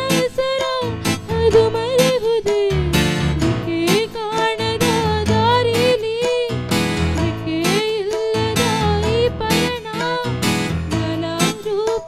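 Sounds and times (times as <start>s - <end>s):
plucked strings accompaniment: 0.0s - 12.0s
woman singing into a microphone: 0.0s - 12.0s.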